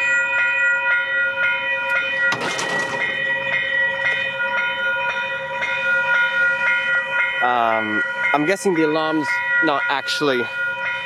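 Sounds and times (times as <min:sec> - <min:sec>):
level crossing bells ringing: 0:00.0 - 0:11.0.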